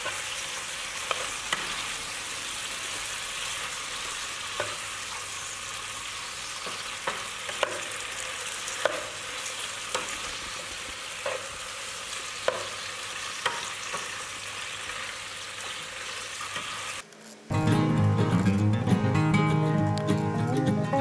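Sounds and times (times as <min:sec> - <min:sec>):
vegetables sizzling in oil: 0:00.0 - 0:17.1.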